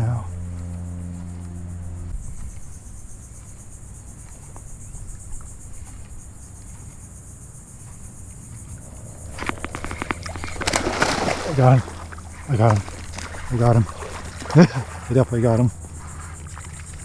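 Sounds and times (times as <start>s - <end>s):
insects buzzing: 0.0s - 17.0s
wind rumble on microphone: 0.0s - 17.0s.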